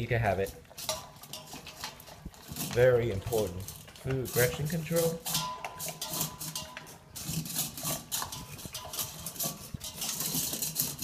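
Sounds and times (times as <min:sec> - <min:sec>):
dogs crunching and chewing food: 0:00.0 - 0:11.0.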